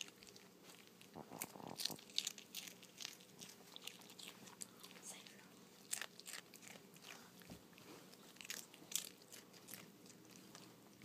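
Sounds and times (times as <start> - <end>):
dog crunching a chip: 0.0 - 11.0.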